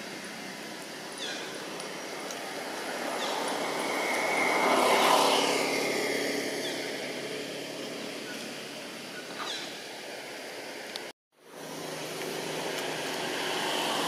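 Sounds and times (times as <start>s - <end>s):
engine passing by: 0.0s - 10.3s, 11.4s - 14.0s.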